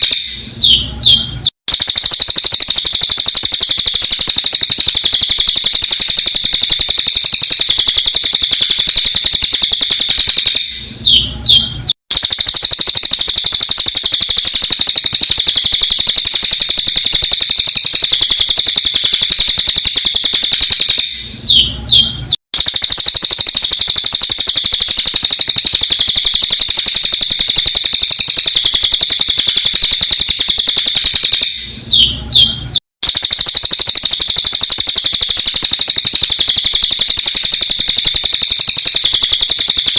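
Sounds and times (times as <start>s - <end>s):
rapid high-pitched bird chirping: 0.0s - 39.9s.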